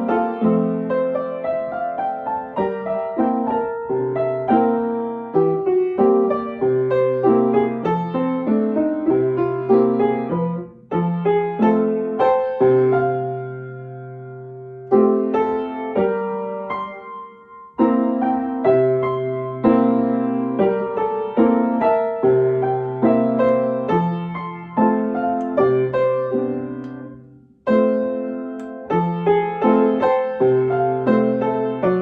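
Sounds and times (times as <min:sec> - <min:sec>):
slow halting piano playing: 0:00.0 - 0:32.0.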